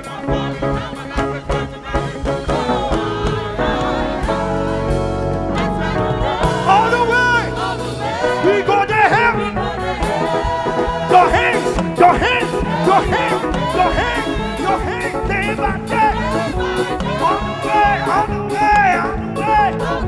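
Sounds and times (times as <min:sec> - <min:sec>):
church band playing gospel music: 0:00.0 - 0:20.0.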